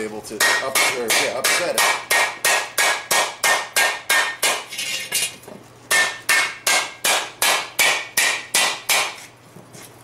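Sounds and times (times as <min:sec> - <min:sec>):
hammer striking steel pan: 0:00.4 - 0:05.3, 0:05.9 - 0:09.2.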